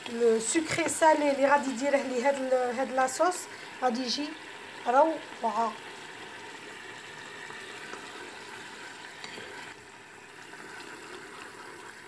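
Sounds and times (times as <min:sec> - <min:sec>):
syrup bubbling and sizzling in pan: 0:00.0 - 0:12.0.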